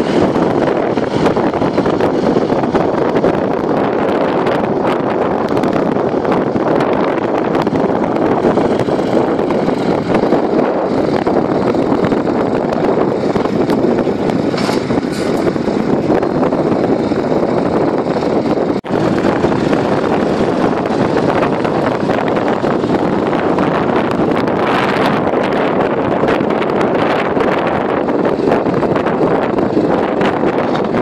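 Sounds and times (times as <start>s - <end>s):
tractor diesel engine running: 0.0s - 31.0s
wind rumbling on microphone: 0.0s - 31.0s.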